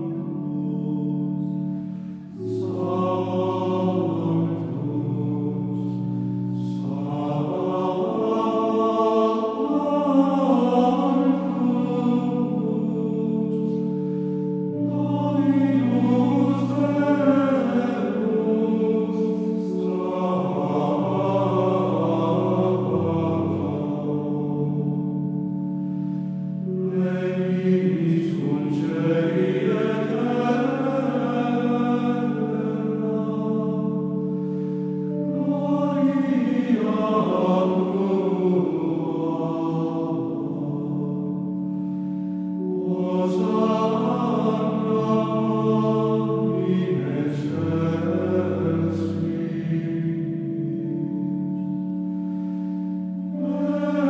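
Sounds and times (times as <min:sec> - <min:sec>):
choir chanting: 0:00.0 - 0:54.0.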